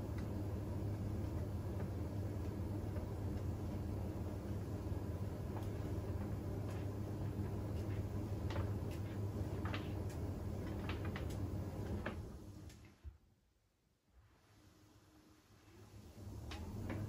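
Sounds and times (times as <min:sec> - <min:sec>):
washing machine humming: 0:00.0 - 0:13.4, 0:14.4 - 0:17.0.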